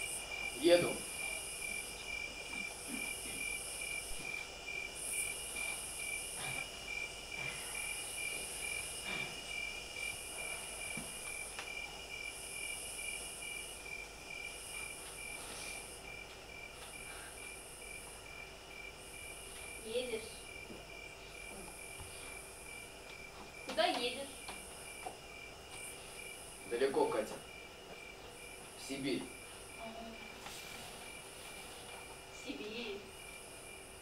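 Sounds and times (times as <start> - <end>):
crickets chirping: 0.0 - 34.0
high insect buzz: 0.0 - 34.0.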